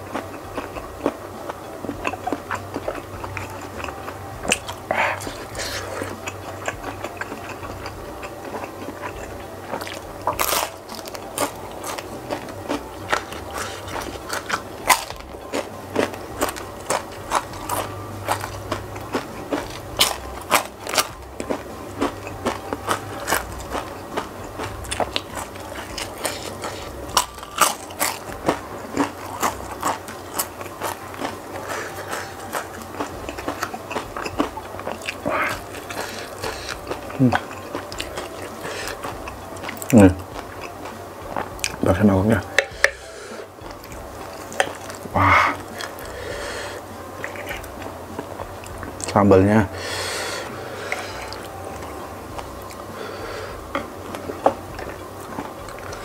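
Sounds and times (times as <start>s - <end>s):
mouth chewing crispy snacks: 0.0s - 56.0s.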